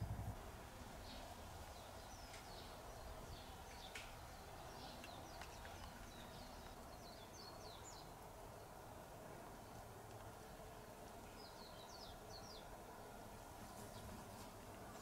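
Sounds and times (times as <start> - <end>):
low background noise: 0.0 - 15.0
small birds chirping: 1.0 - 15.0.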